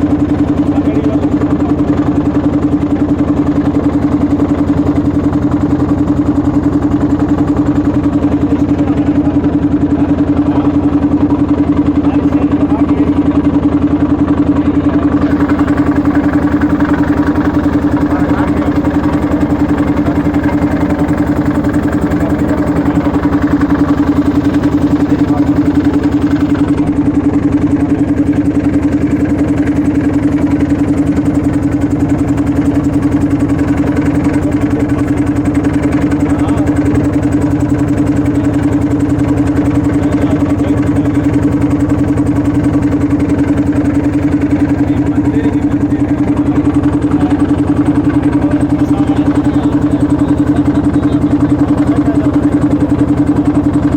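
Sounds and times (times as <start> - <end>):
motorboat engine running: 0.0 - 53.9.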